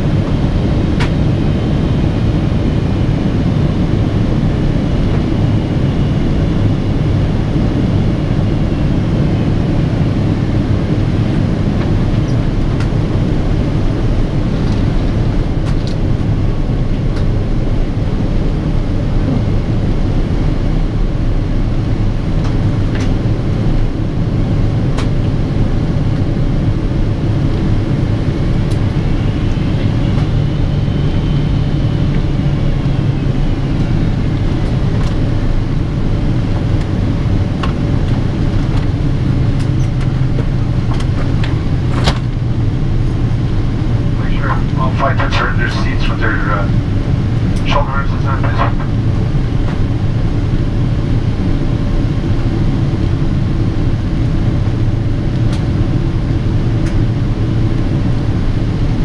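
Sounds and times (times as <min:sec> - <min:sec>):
airplane cabin engine rumble: 0:00.0 - 0:59.0
faint steady hum: 0:05.7 - 0:59.0.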